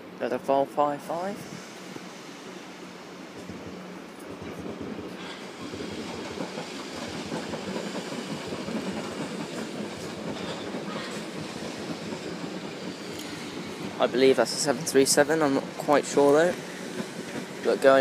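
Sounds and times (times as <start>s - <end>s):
electric train passing: 0.0s - 18.0s.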